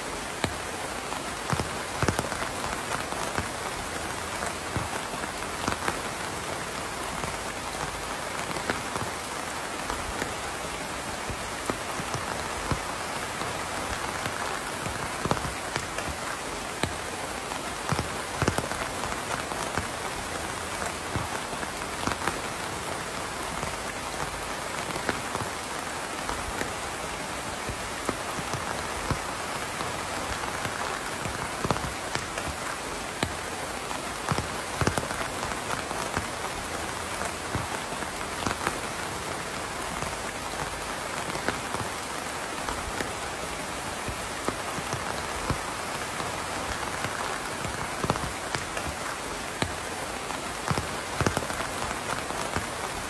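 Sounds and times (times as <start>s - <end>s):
rain drops hitting: 0.0s - 53.0s
rain hissing: 0.0s - 53.0s.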